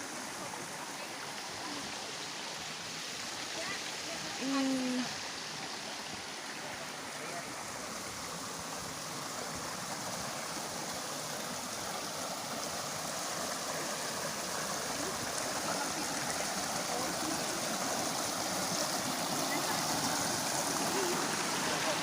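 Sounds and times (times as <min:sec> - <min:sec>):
rushing river and waterfall: 0:00.0 - 0:22.0.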